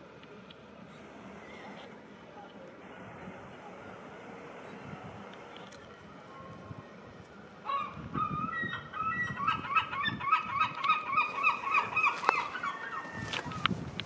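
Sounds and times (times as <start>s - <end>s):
birds calling repeatedly: 0.1s - 14.0s.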